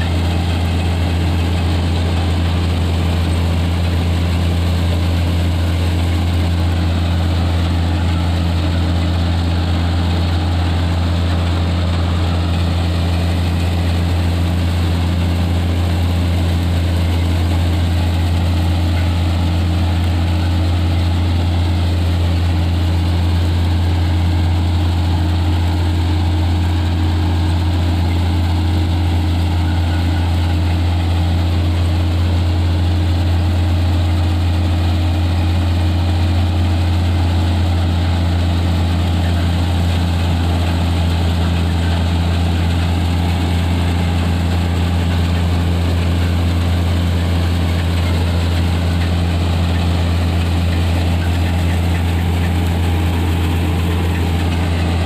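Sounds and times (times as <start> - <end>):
combine harvester engine drone: 0.0 - 55.0
whirr of threshing machinery: 0.0 - 55.0.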